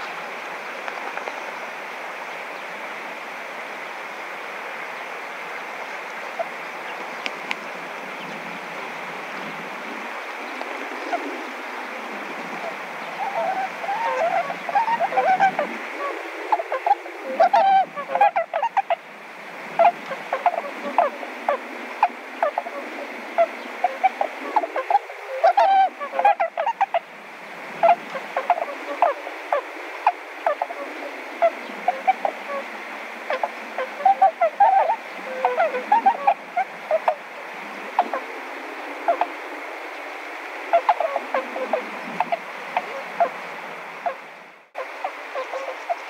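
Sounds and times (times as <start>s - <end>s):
steady hiss: 0.0s - 46.0s
swans honking: 5.8s - 27.2s, 27.8s - 46.0s.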